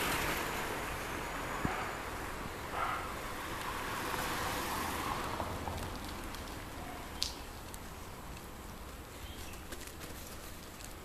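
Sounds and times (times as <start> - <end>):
passing vehicle: 0.0 - 8.9.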